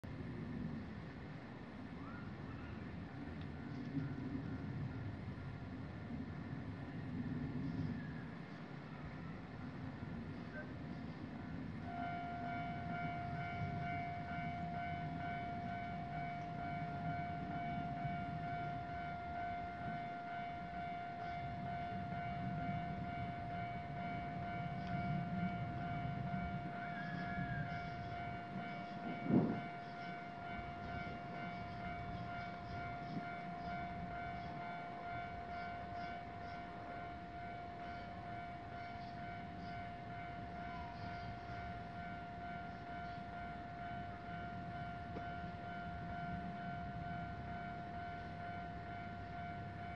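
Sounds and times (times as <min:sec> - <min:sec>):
level crossing warning bell: 0:08.6 - 0:49.9.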